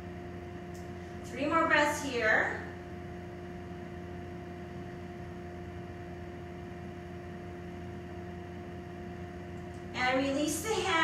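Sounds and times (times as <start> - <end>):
faint steady whine: 0.0 - 11.0
room hum: 0.0 - 11.0.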